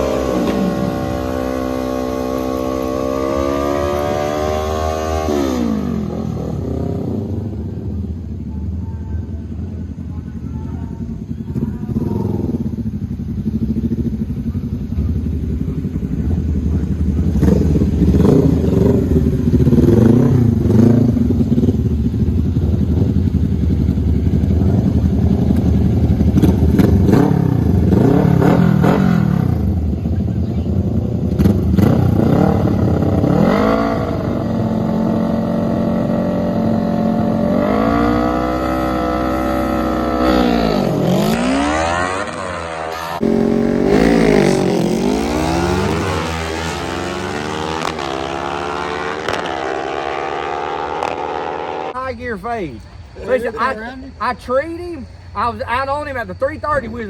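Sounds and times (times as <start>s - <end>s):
mini bike engines revving: 0.0s - 8.0s, 9.4s - 57.0s.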